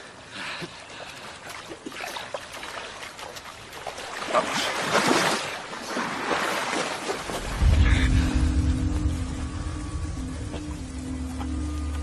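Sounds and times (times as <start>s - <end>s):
water sloshing and trickling: 0.0s - 12.0s
heavy splashing: 1.4s - 12.0s.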